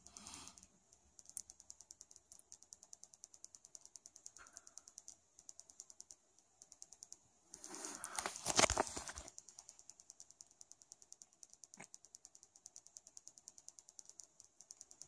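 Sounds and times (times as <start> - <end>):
faint rapid high-pitched ticking: 0.0 - 15.0.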